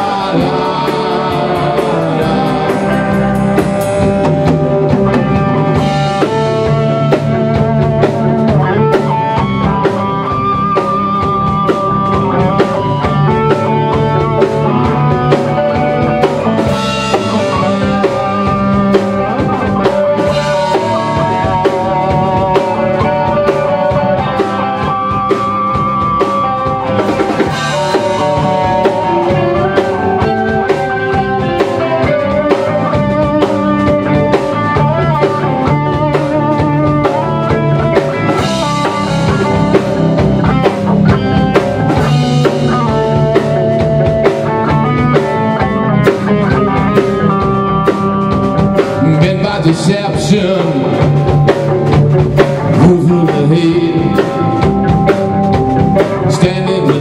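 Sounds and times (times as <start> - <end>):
electric guitar melody: 0.0 - 57.0
rock band playing: 0.0 - 57.0.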